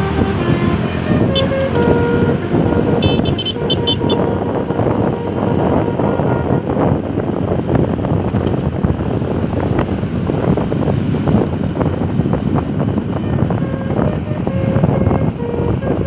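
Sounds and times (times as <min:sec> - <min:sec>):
road traffic passing: 0:00.0 - 0:16.0
wind buffeting microphone: 0:00.0 - 0:16.0.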